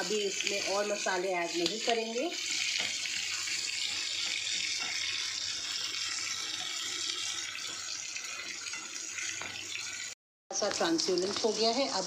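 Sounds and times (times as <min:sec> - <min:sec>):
food sizzling in hot oil: 0:00.0 - 0:12.0
spatula stirring in a pan: 0:00.0 - 0:12.0.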